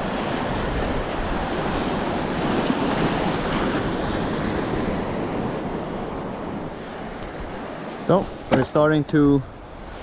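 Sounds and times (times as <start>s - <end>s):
wind on microphone: 0.0s - 8.7s
small waves splashing: 0.0s - 10.0s.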